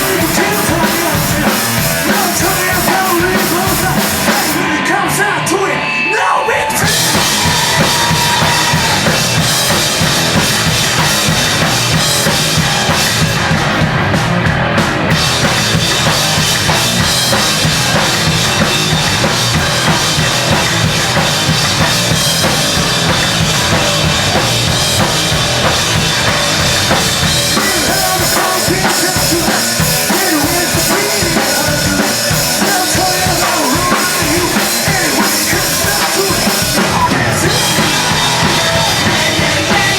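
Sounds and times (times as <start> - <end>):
live rock band playing loudly: 0.0 - 39.9.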